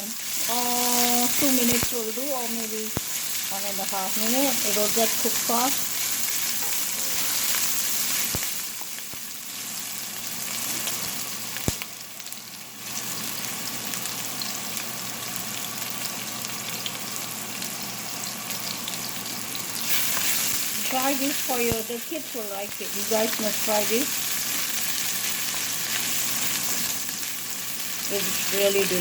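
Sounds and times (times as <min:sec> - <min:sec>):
ginger sizzling in hot oil: 0:00.0 - 0:29.0.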